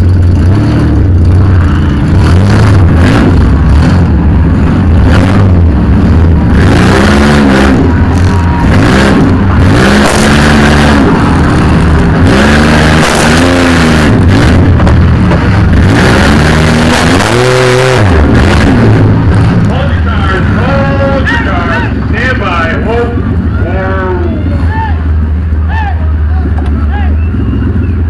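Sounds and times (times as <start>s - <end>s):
van engine revving: 0.0s - 28.0s.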